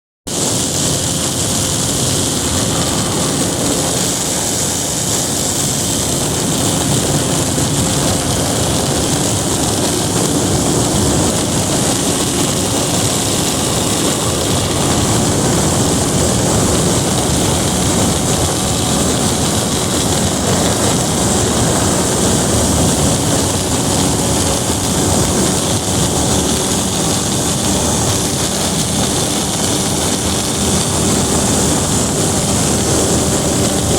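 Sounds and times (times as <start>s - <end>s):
hissing rush of air: 0.3s - 33.9s
small aircraft propeller and motor: 0.3s - 33.9s.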